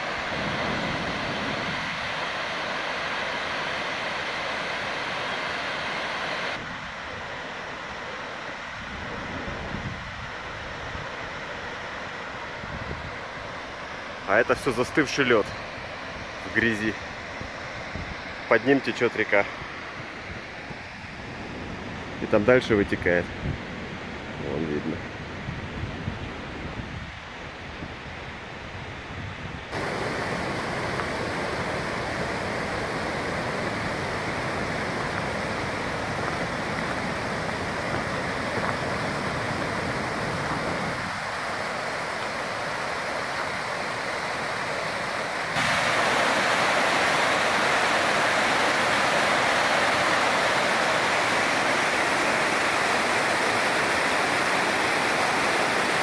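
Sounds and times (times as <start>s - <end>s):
stream rushing over rocks: 0.0s - 21.8s, 29.7s - 56.0s.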